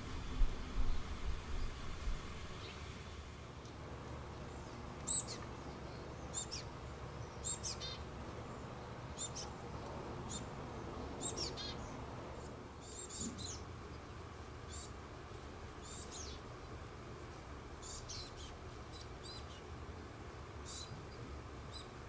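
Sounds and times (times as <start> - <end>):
low background hum: 0.0 - 22.0
songbirds chirping: 0.0 - 22.0.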